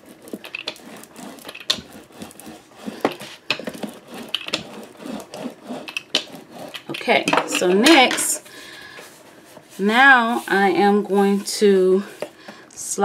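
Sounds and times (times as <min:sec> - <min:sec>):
rubber roller rubbing on cardstock: 0:00.0 - 0:07.2, 0:09.1 - 0:12.4.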